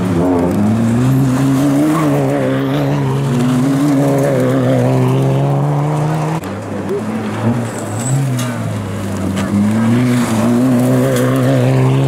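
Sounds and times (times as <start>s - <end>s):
rally car engines at high revs: 0.0s - 12.0s.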